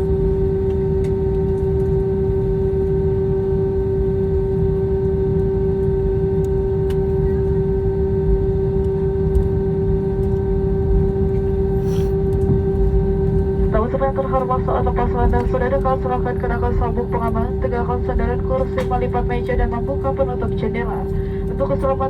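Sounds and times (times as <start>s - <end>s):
aircraft cabin engine whine: 0.0s - 22.0s.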